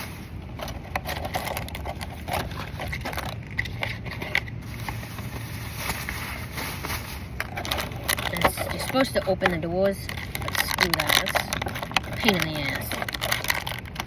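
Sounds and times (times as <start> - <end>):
cardboard and plastic crinkling: 0.0 - 14.0
steady low rumble: 0.0 - 14.0.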